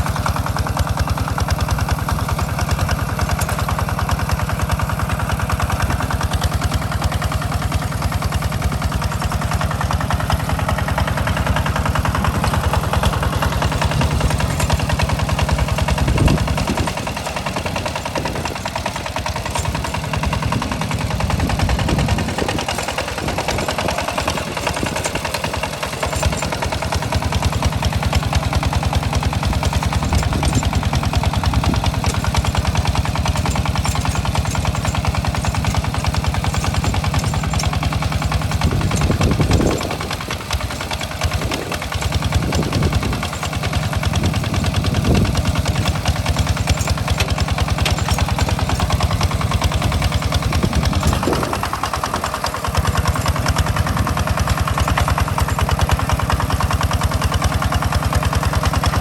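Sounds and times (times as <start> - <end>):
hand tractor engine chugging: 0.0 - 59.0.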